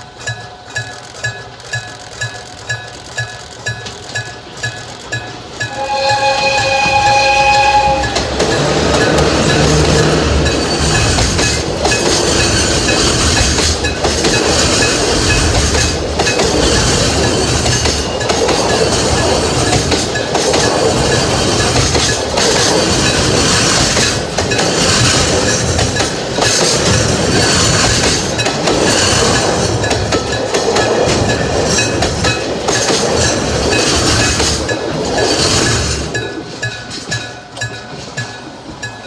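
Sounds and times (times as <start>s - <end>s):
wheels clicking over rail joints: 0.0s - 39.0s
freight wagons rolling past: 3.9s - 39.0s.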